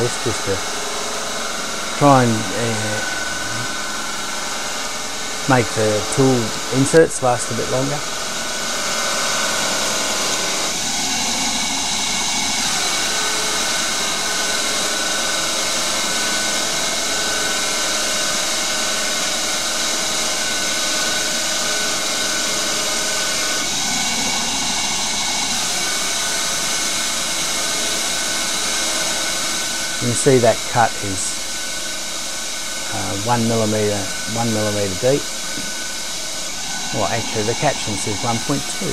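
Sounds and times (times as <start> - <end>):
lathe cutting metal: 0.0 - 38.9.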